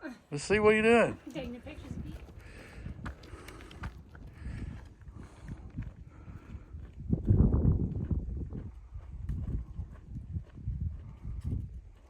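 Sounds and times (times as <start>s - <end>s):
footsteps on dirt trail: 1.1s - 12.0s
wind rumble on microphone: 1.2s - 12.0s.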